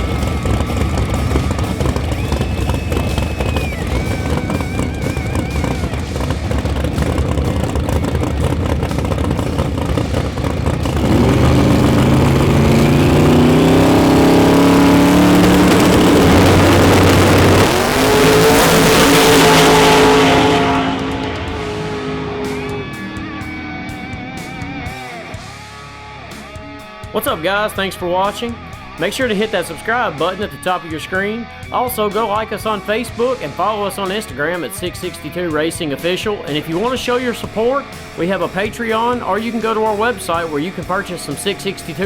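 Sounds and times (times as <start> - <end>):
drag racing cars accelerating: 0.0 - 26.6, 31.7 - 42.0.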